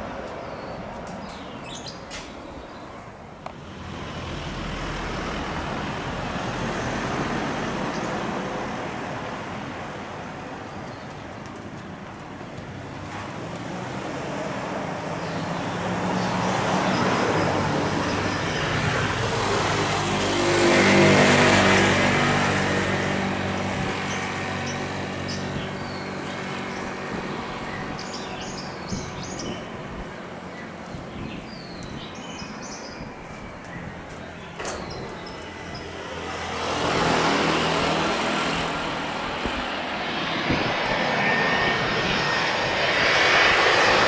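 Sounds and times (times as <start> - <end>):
jet engines passing overhead: 0.0 - 44.0.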